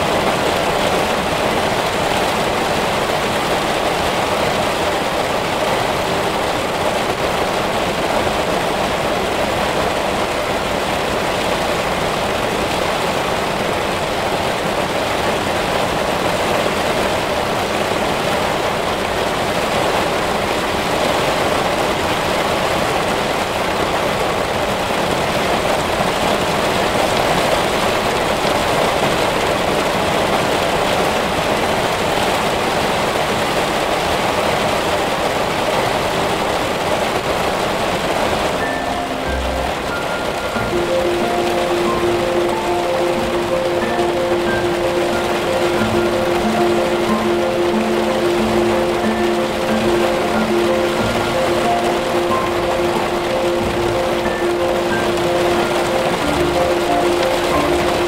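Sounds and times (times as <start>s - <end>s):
heavy rain on branches: 0.0s - 58.0s.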